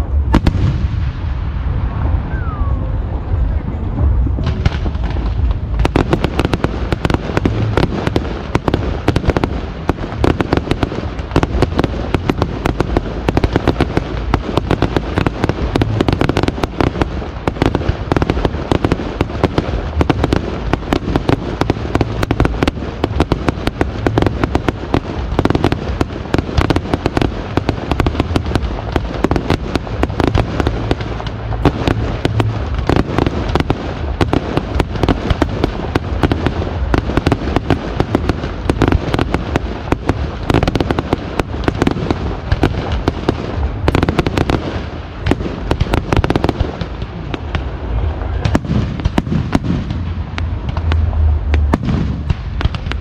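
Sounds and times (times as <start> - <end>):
deep rumble: 0.0 - 53.0
fireworks bursts and crackling: 0.0 - 53.0.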